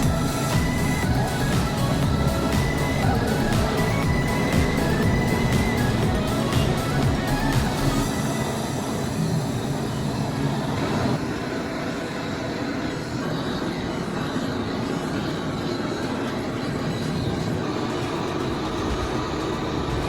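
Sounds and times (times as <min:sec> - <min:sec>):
factory machinery running: 0:00.0 - 0:20.0.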